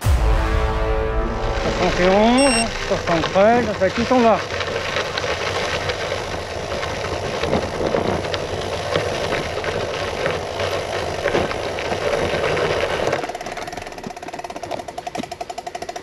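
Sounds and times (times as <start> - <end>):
bicycle rolling noise: 1.2 - 16.0
wind rush while cycling: 1.5 - 15.9
bicycle clicks and rattles: 3.1 - 16.0.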